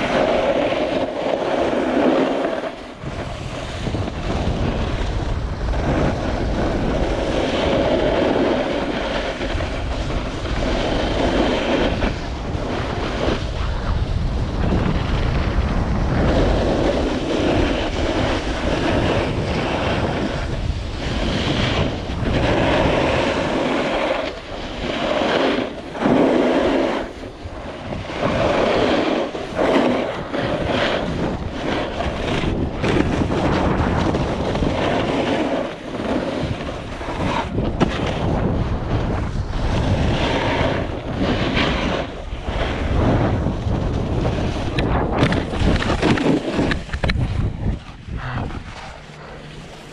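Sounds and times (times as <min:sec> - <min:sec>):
ski edges carving on snow: 0:00.0 - 0:49.9
wind buffeting microphone: 0:00.0 - 0:49.9.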